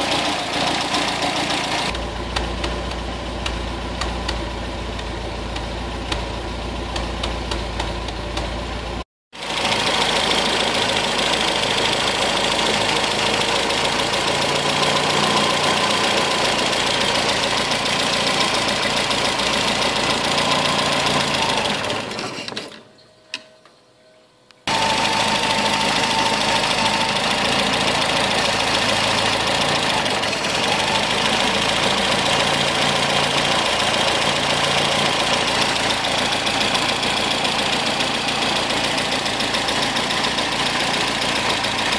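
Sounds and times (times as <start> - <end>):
car engine idling: 0.0 - 21.6, 24.7 - 41.9.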